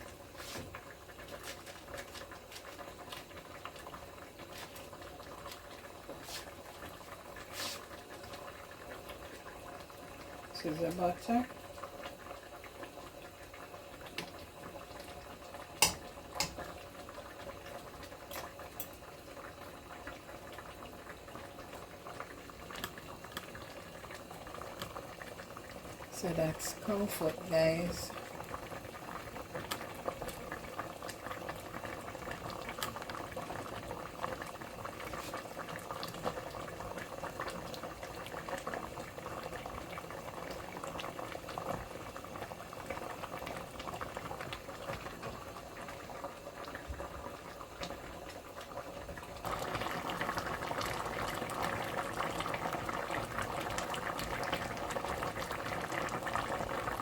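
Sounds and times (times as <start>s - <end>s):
stew bubbling in a pot: 0.0s - 57.0s.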